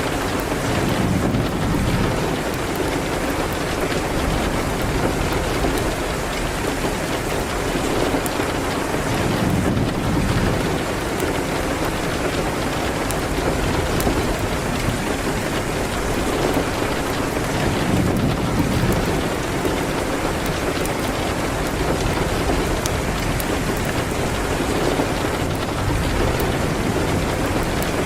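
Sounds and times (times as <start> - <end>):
heavy rain on a window: 0.0 - 28.0
wood fire crackling: 0.0 - 28.0.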